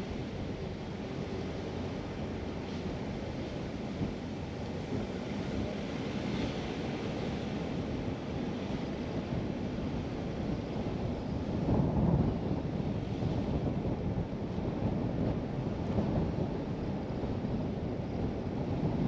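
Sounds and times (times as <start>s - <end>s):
car tyre and wind rumble: 0.0s - 19.0s.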